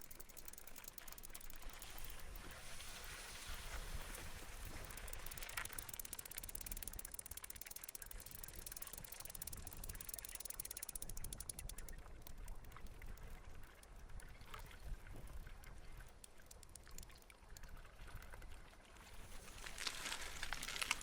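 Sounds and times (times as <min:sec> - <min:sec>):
bike freehub ticking: 0:00.0 - 0:14.7, 0:15.6 - 0:18.3, 0:19.5 - 0:21.0.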